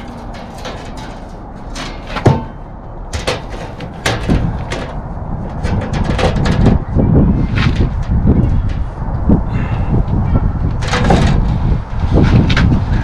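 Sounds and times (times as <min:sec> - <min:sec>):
aluminum sheet clanging: 0:00.0 - 0:08.9, 0:10.8 - 0:12.7.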